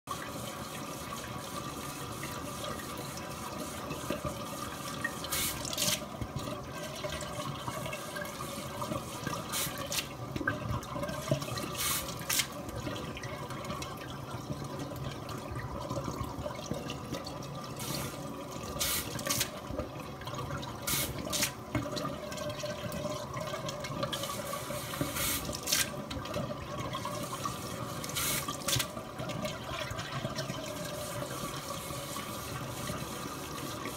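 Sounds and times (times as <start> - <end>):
tap water running into bowl: 0.1 - 33.9.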